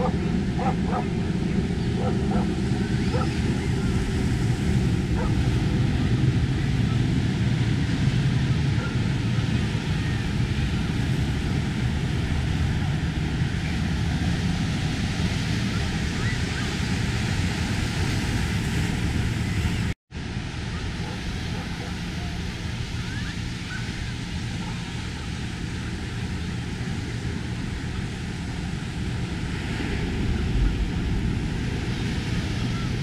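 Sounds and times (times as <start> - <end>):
low rumbling noise: 0.0 - 33.0
ocean surf breaking: 0.0 - 33.0.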